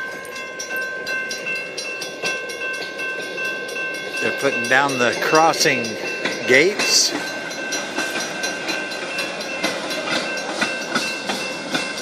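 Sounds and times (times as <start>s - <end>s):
railroad crossing bell ringing: 0.0s - 12.0s.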